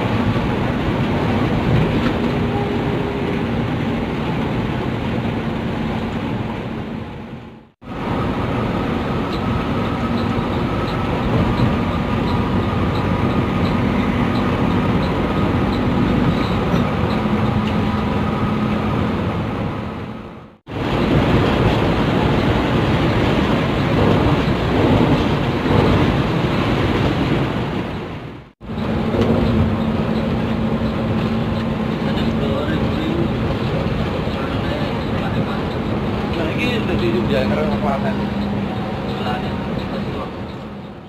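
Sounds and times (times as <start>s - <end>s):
bus engine and road noise: 0.0s - 41.0s.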